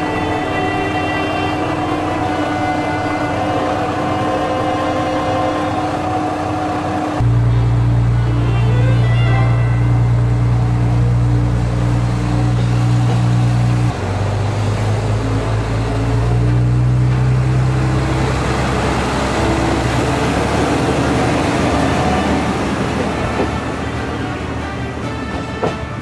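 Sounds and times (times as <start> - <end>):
diesel railcar engine humming: 0.0 - 26.0
train rolling noise: 0.0 - 26.0.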